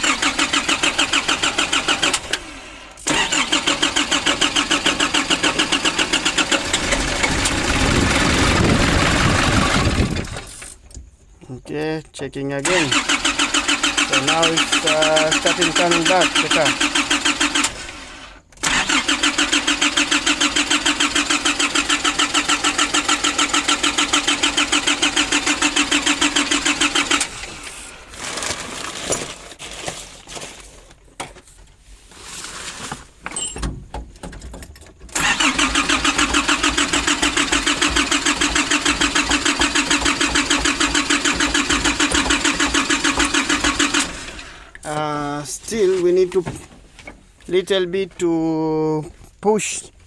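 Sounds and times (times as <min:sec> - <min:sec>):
diesel engine cranking: 0:00.0 - 0:29.5, 0:33.3 - 0:48.2.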